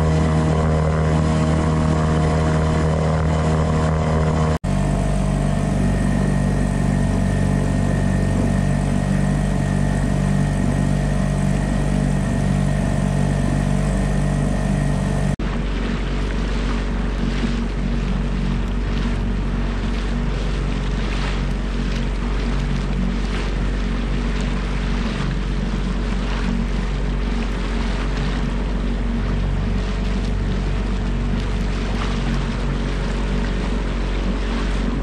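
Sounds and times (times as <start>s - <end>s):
boat wake rushing: 0.0s - 35.0s
outboard motor running: 0.0s - 35.0s
splashing water: 0.0s - 35.0s.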